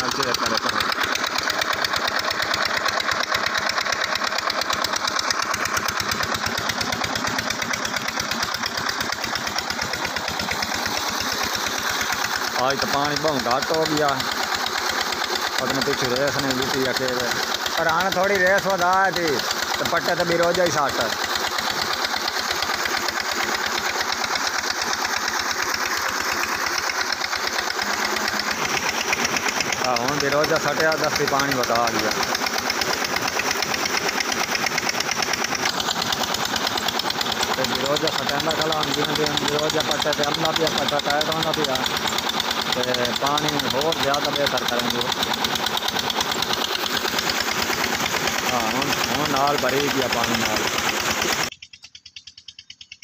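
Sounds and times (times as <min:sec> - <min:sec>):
water gushing from a pipe: 0:00.0 - 0:51.5
diesel engine running: 0:00.0 - 0:53.0.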